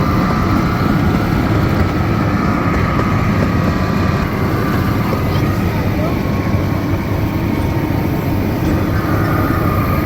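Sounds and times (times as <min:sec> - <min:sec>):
miniature train running: 0:00.0 - 0:10.0.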